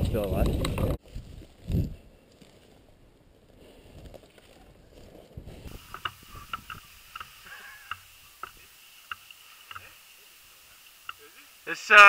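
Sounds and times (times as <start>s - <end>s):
quiet outdoor background: 0.0s - 12.0s.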